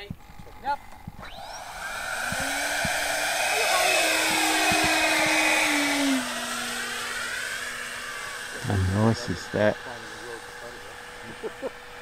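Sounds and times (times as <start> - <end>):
electric fan motors whining: 0.0 - 12.0.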